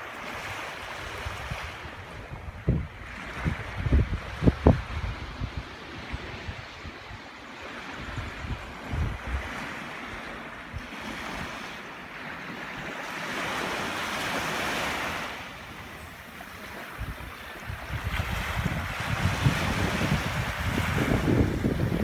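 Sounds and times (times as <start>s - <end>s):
small waves washing on sand: 0.0s - 22.0s
wind gusts on microphone: 0.1s - 22.0s.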